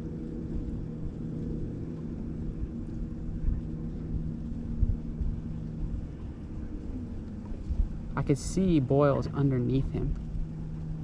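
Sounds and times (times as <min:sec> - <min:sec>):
low motor hum: 0:00.0 - 0:11.0
low rumble: 0:00.0 - 0:11.0.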